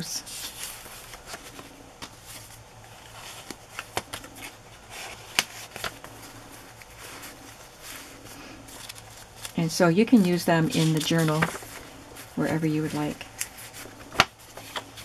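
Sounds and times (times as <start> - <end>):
paper rustling: 0.2 - 15.0.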